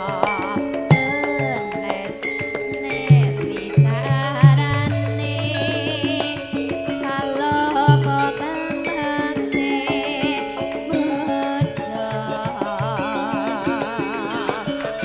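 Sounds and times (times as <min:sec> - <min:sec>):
gamelan notes: 0:00.0 - 0:15.0
hand drum strokes: 0:00.0 - 0:15.0
wavering vibrato melody: 0:00.0 - 0:15.0.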